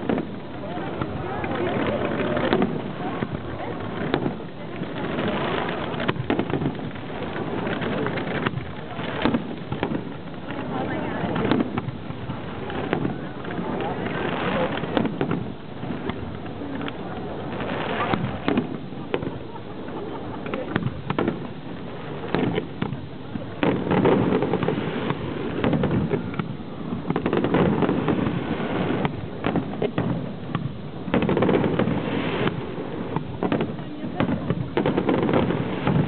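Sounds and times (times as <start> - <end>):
fireworks bangs and crackles: 0.0 - 36.0
spectators' voices: 0.0 - 36.0.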